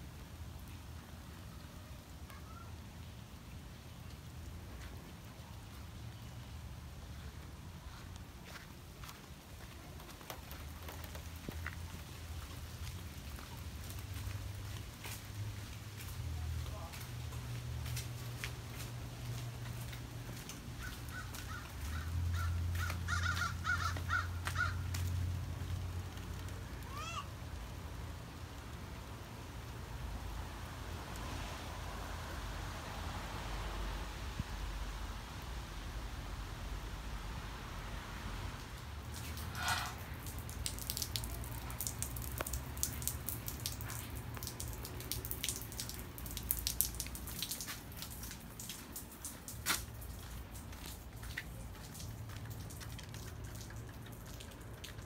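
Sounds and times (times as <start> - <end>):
rain drops ticking: 0.0 - 55.0.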